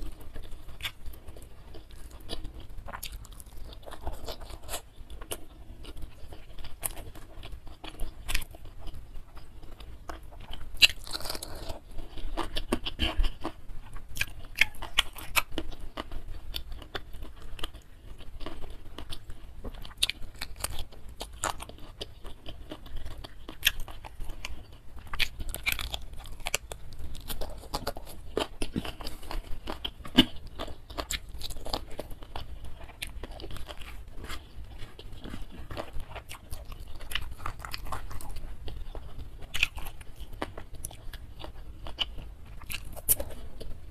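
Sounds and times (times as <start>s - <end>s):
person crunching food: 0.0s - 43.9s.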